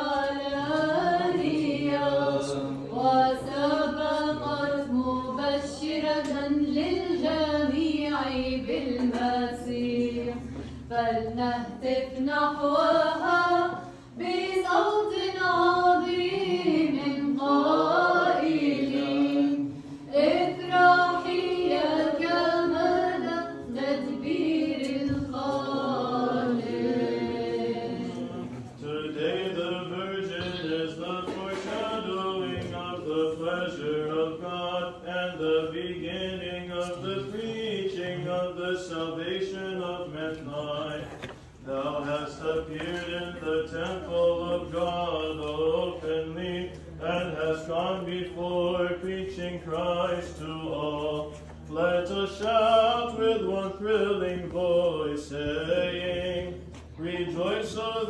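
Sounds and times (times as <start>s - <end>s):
unaccompanied choral chant: 0.0s - 58.0s.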